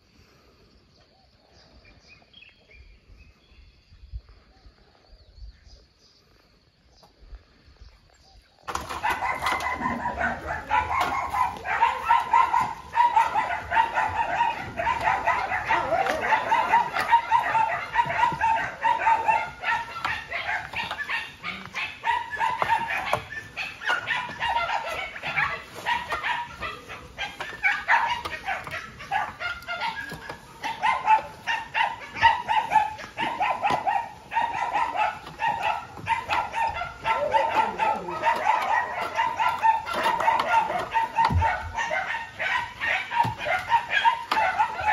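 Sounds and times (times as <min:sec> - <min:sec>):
many dogs barking: 0:08.7 - 0:44.9.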